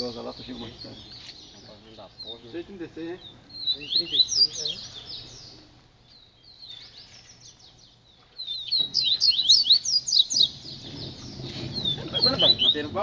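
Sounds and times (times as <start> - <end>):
bird singing high chirps: 0.0 - 13.0.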